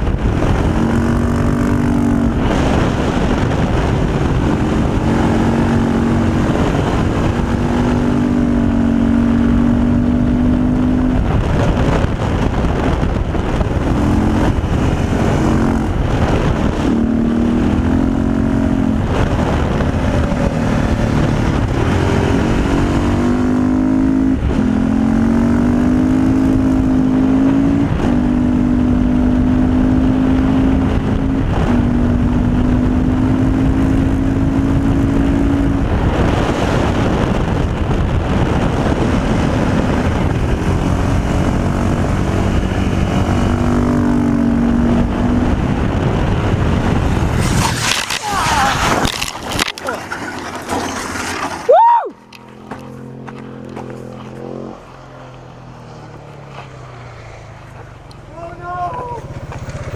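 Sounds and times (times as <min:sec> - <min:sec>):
motorcycle engine running hard: 0:00.0 - 0:49.9, 0:52.4 - 0:59.9
rush of riding noise: 0:00.0 - 0:59.9.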